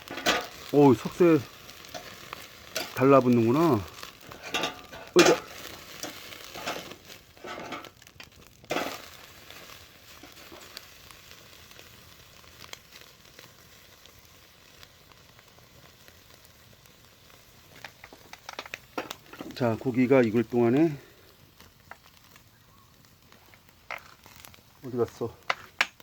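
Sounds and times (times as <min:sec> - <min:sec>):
meat sizzling on a grill: 0:00.0 - 0:26.0
small fire crackles: 0:00.0 - 0:26.0.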